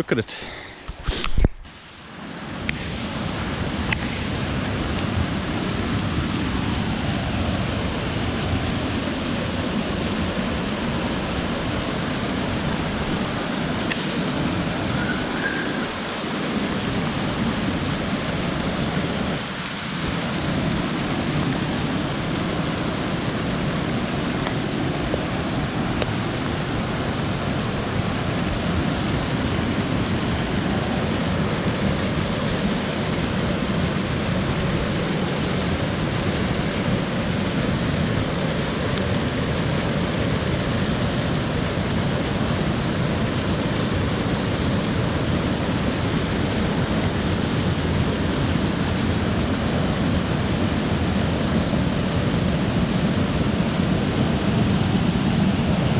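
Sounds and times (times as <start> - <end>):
mountain stream rushing water: 0.0 - 55.9.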